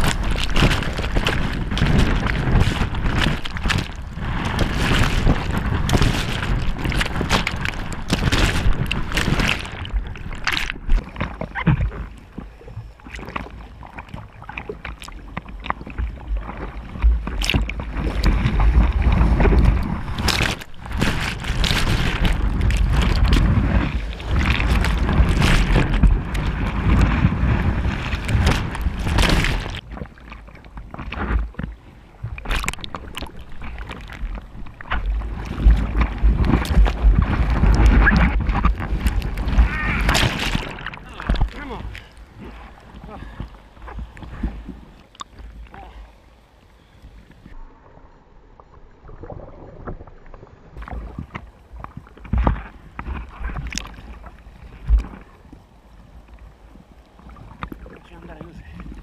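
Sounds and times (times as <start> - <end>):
water splashing and sloshing: 0.0 - 59.0
waves breaking: 0.0 - 59.0.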